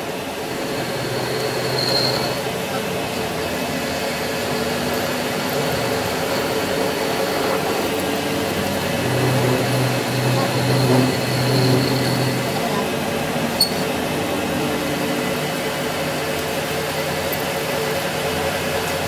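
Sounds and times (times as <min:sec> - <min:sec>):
workshop machinery running: 0:00.0 - 0:19.0.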